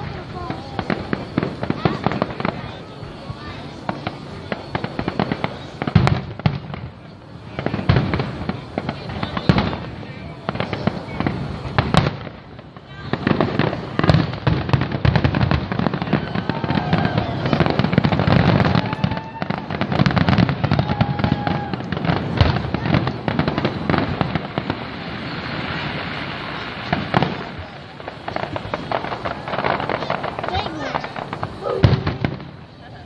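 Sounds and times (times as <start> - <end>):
firework shells bursting: 3.8 - 32.8.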